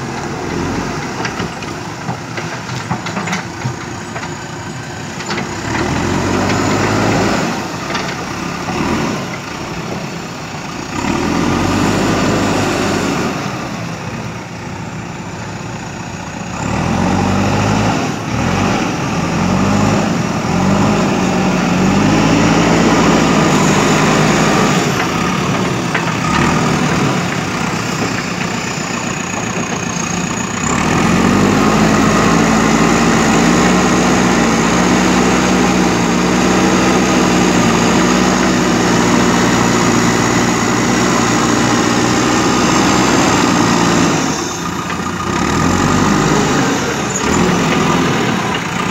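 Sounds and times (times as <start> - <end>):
loader bucket digging earth: 0.0 - 14.2, 16.4 - 48.9
diesel engine revving: 0.0 - 48.9.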